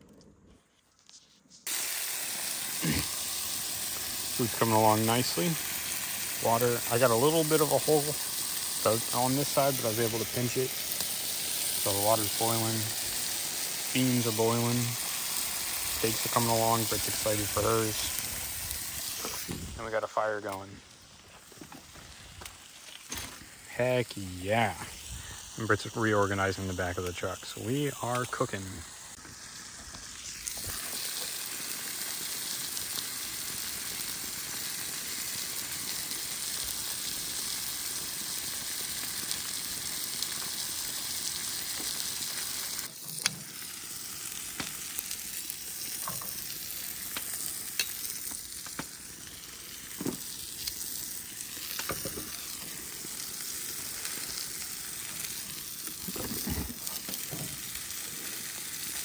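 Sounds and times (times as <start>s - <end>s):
steaks sizzling: 1.6s - 59.0s.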